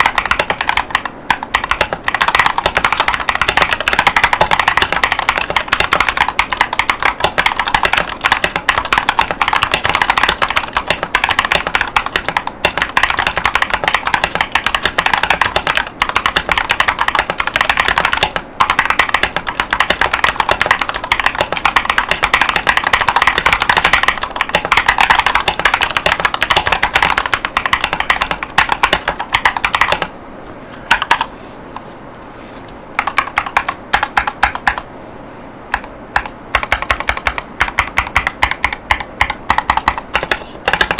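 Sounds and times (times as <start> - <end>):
mechanical keyboard typing: 0.0 - 30.1, 30.9 - 31.3, 33.0 - 34.9, 35.7 - 40.9.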